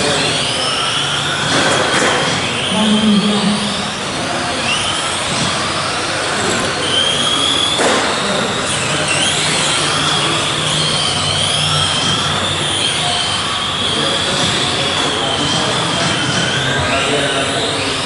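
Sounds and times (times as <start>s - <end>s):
toy truck motors whining: 0.0s - 18.0s.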